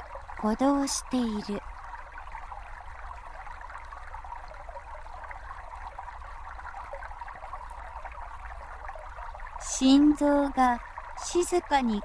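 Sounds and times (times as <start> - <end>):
brook trickling and babbling: 0.0 - 12.0.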